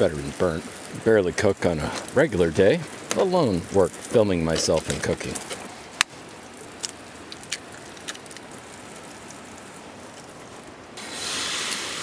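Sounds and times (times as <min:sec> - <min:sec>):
eggs sizzling in hot pan: 0:00.0 - 0:12.0
sausage sizzling in a pan: 0:00.0 - 0:12.0.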